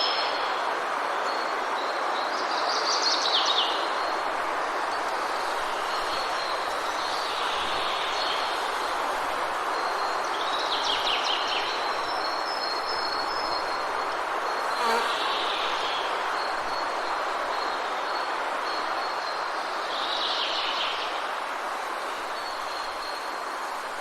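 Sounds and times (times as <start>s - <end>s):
steady even hiss: 3.8s - 24.0s.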